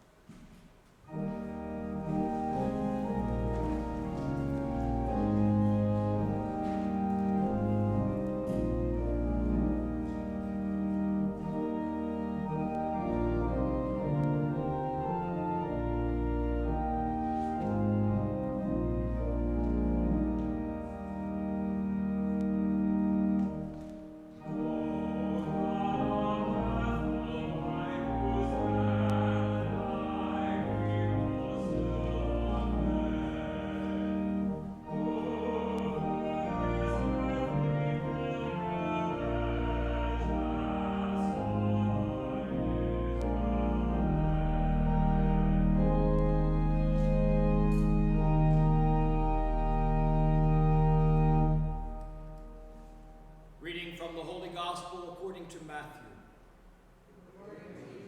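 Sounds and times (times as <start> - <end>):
church organ chords: 0.0 - 56.8.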